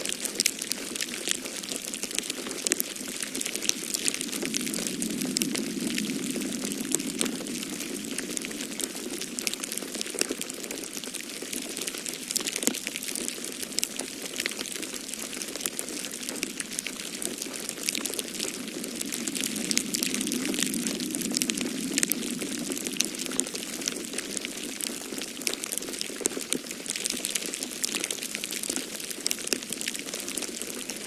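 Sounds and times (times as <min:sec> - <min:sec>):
steady hiss and low rush: 0:00.0 - 0:31.0
wood fire crackling and popping: 0:00.0 - 0:31.0.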